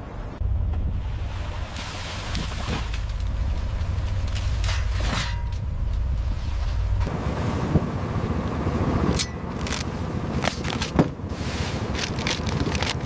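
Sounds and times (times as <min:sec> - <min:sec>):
wind noise: 0:00.0 - 0:13.0
boat engine running: 0:00.4 - 0:13.0.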